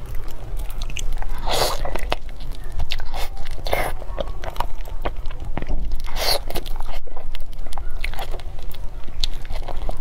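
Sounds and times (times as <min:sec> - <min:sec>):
chewing soft food: 0:00.0 - 0:10.0
mouth clicks and smacks: 0:00.0 - 0:10.0.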